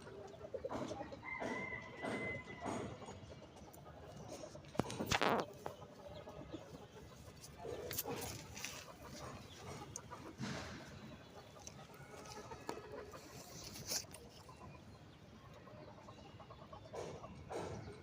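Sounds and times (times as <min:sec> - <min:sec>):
faint chicken clucking: 0:00.0 - 0:18.0.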